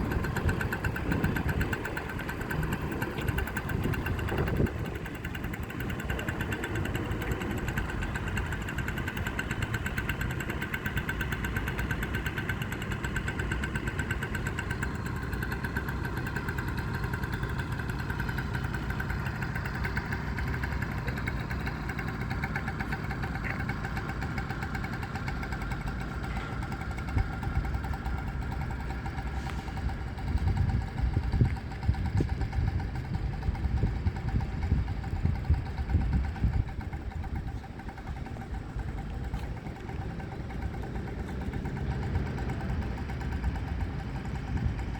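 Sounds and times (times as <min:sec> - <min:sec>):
low uneven rumbles: 0:00.0 - 0:44.9
small petrol engine running: 0:00.0 - 0:44.9.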